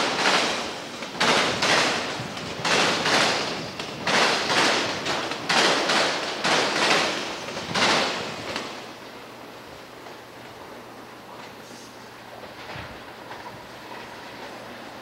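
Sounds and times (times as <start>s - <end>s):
train wheels clattering over track: 0.0s - 15.0s.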